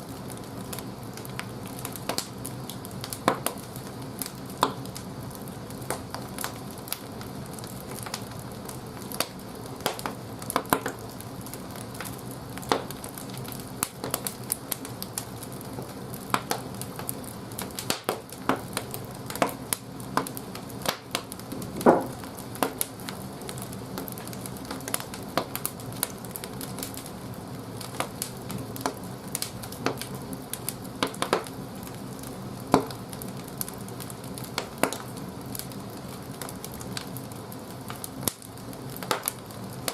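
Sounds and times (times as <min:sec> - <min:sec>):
boiler fire low rumble: 0:00.0 - 0:39.9
firewood crackling and popping: 0:00.0 - 0:39.9.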